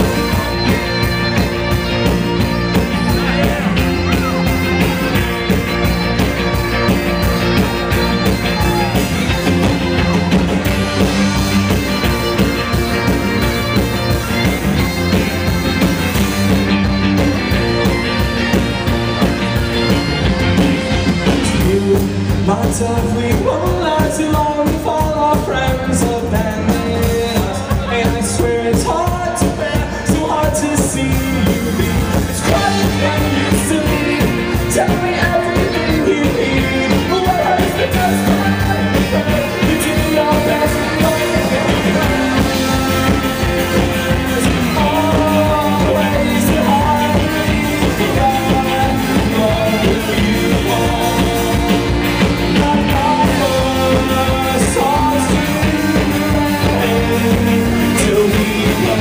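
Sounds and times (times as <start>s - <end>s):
live band playing up-tempo song: 0.0s - 59.0s.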